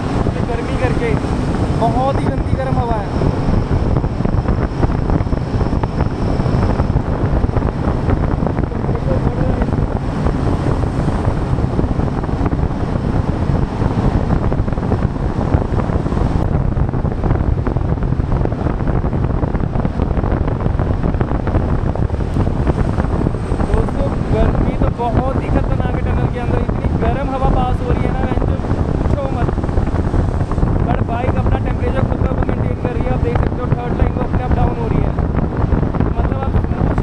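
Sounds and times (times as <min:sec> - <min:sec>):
motorcycle engine and exhaust: 0:00.0 - 0:37.0
wind buffeting microphone: 0:00.0 - 0:37.0.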